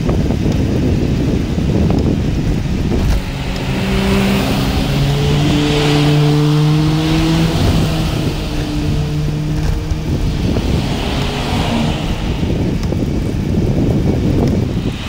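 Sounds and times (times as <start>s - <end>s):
car engines passing: 0.0s - 15.0s
wind rumble on microphone: 0.0s - 15.0s.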